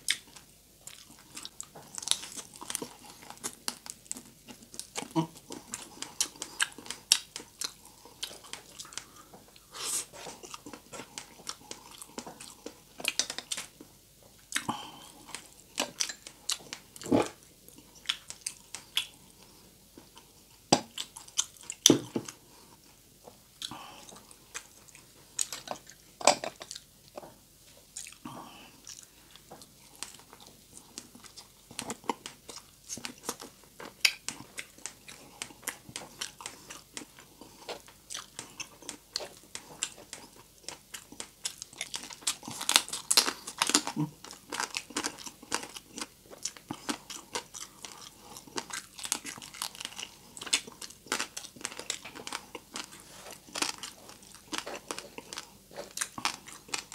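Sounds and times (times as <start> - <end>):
crunching and chewing crispy pork: 0.0 - 56.9.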